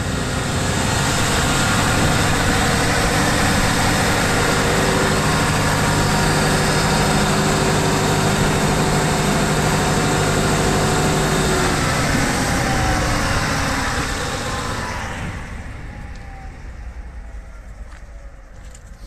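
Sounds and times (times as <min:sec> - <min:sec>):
diesel generator running down: 0:00.0 - 0:19.0.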